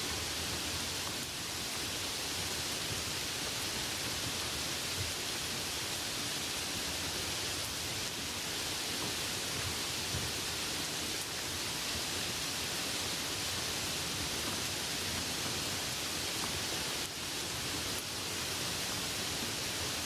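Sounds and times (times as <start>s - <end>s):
light rain hissing: 0.0s - 20.0s.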